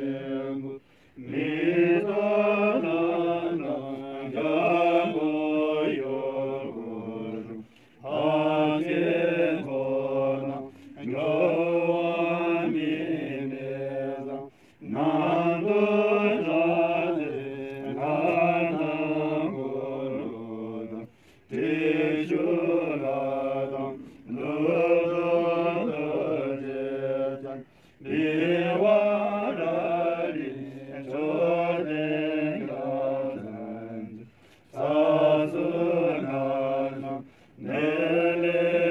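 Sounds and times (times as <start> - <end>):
monks chanting in unison: 0.0 - 38.9.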